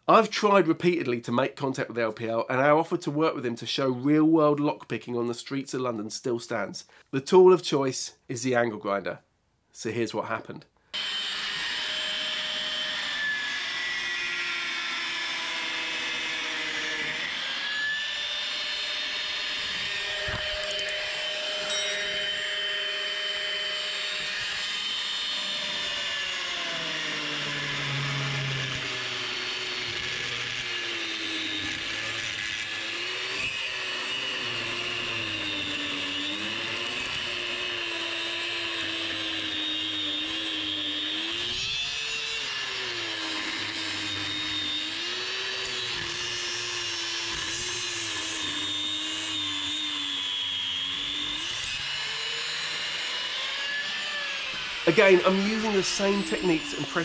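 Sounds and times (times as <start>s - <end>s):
angle grinder cutting metal: 11.0s - 57.0s.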